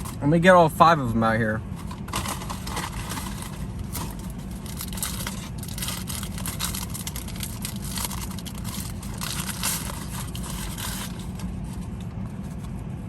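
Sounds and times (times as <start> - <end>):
steady low rumble: 0.0 - 13.0
paper wrappers crinkling: 1.8 - 12.8.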